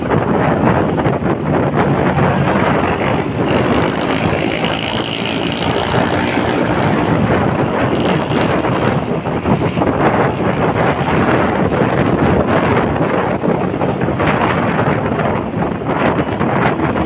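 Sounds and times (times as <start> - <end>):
motorbike engine: 0.0 - 17.0
wind buffeting microphone: 0.0 - 17.0.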